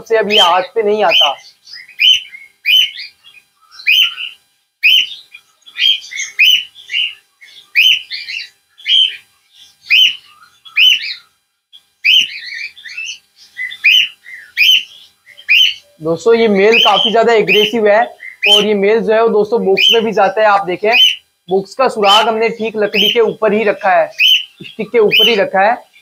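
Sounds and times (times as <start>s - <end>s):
cockatiels chirping: 0.1s - 11.3s, 12.0s - 18.8s, 19.7s - 26.0s.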